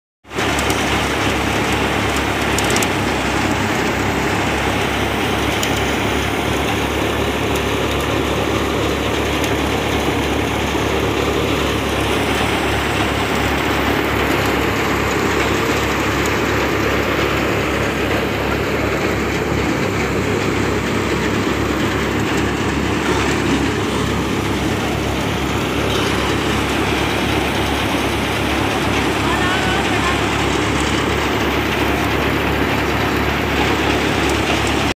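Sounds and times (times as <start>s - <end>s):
tractor engine low hum: 0.2s - 34.9s
threshing machine drone: 0.3s - 34.9s.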